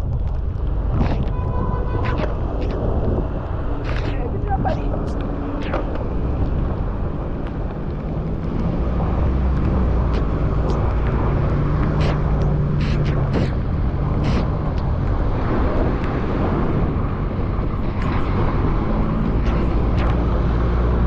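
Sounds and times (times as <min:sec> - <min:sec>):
road noise from bicycle: 0:00.0 - 0:21.0
wind rush: 0:00.0 - 0:21.0.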